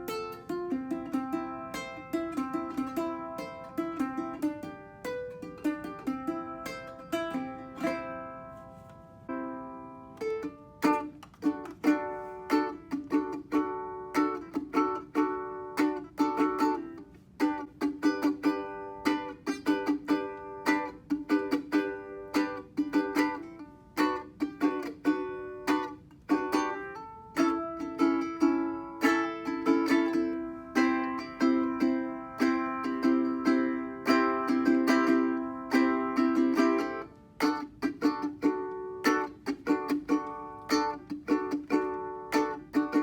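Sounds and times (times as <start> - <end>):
ukulele strumming chords: 0.0 - 43.0.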